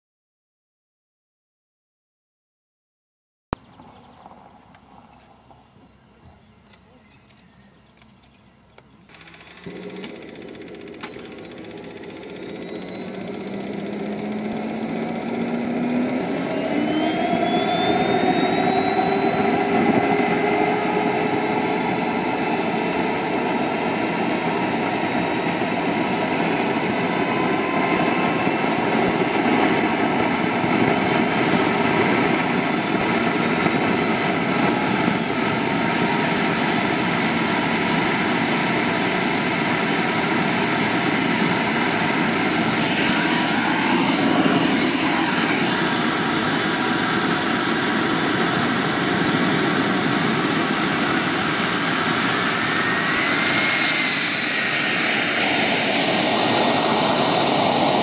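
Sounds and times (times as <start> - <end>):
jet turbine whine: 9.0 - 58.0.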